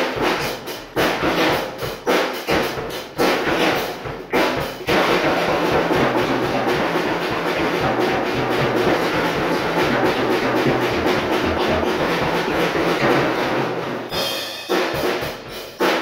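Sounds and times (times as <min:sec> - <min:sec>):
drum kit playing: 0:00.0 - 0:16.0.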